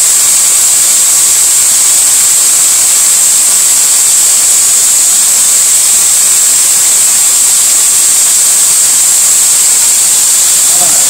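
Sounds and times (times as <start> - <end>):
electric drill running high speed: 0.0 - 11.0.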